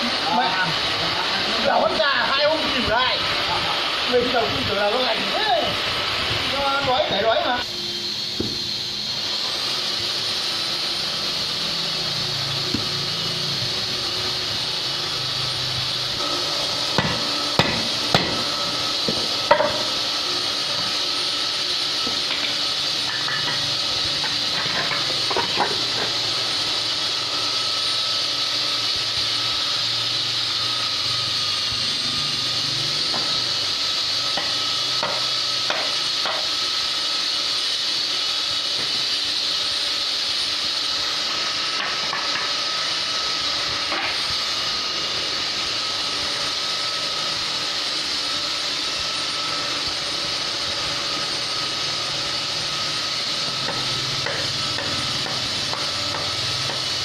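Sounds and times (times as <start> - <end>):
workshop machinery hiss and hum: 0.0 - 57.0.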